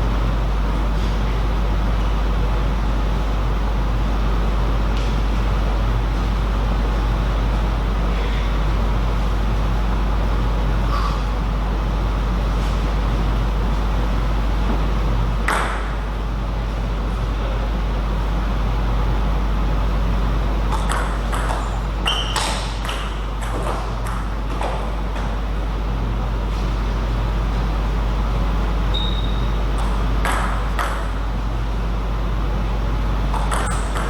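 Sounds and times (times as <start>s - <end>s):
steady hall hum: 0.0s - 34.0s.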